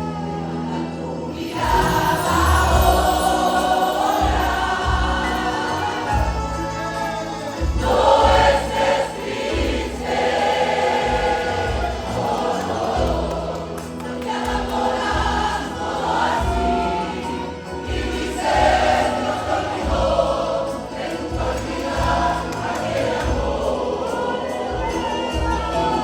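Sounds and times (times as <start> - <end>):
church choir singing: 0.0 - 26.0
pulsing bass line: 0.0 - 26.0.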